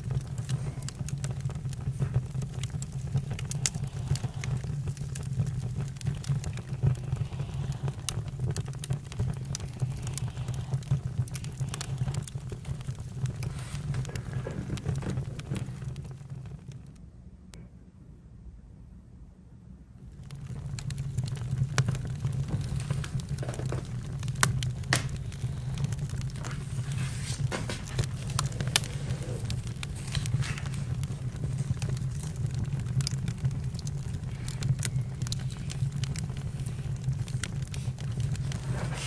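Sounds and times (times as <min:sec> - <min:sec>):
campfire crackling: 0:00.0 - 0:17.0, 0:20.0 - 0:39.0.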